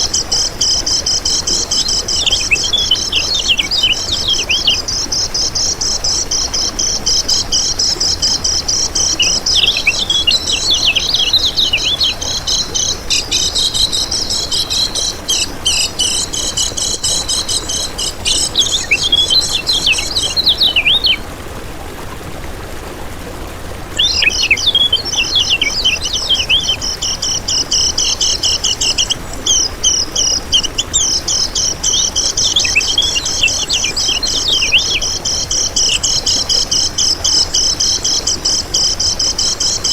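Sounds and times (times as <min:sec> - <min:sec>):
songbird twittering song: 0:00.0 - 0:21.3, 0:23.9 - 0:39.9.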